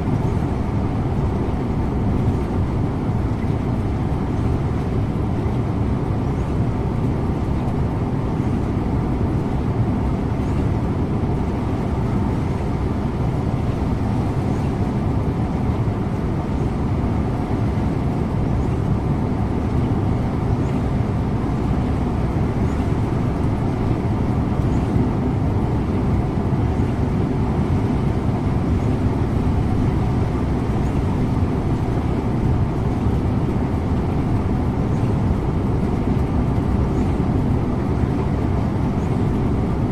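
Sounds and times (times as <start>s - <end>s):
bus engine and tyre rumble: 0.0s - 39.9s.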